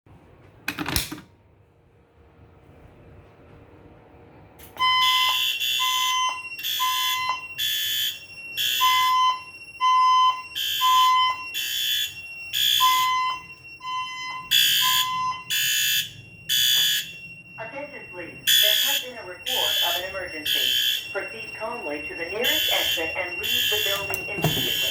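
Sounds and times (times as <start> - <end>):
fire alarm tones: 4.8 - 24.9.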